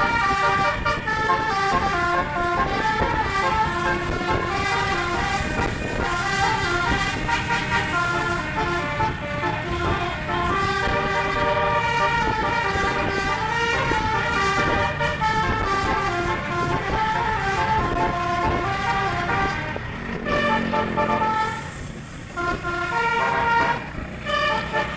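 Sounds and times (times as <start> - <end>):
engine rumble: 0.0 - 24.9
multi-trumpet air horn melody: 0.0 - 24.9.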